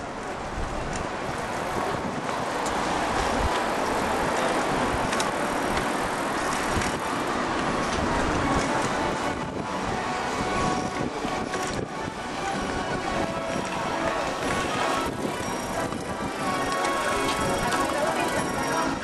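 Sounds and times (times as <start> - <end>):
bicycle road rumble: 0.0 - 19.0
wind on microphone: 0.0 - 19.0.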